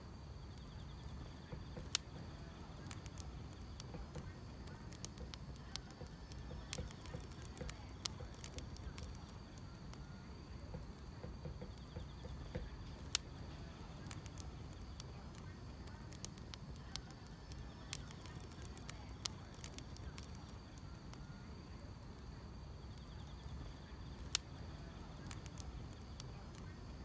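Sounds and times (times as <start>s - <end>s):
insects trilling: 0.0s - 27.0s
wood fire crackling: 0.0s - 27.0s
sharp pops from fire: 0.2s - 27.0s.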